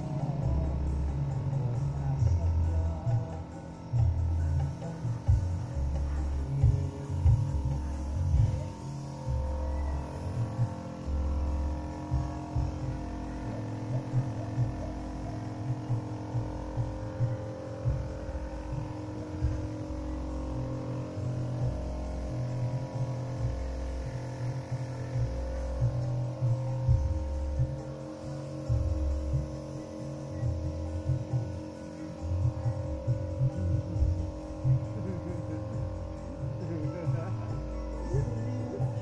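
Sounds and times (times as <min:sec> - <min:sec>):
air compressor humming: 0:00.0 - 0:39.0.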